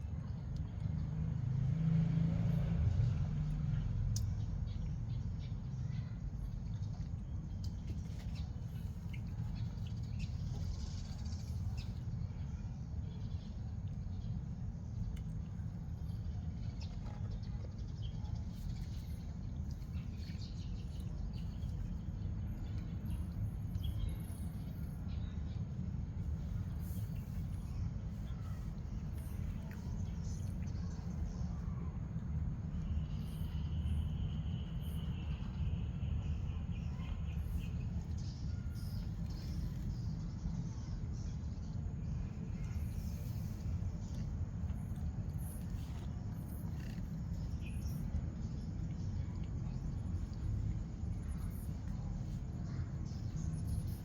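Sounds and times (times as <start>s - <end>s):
low outdoor rumble: 0.0s - 54.0s
faint chirps and clicks: 3.4s - 54.0s.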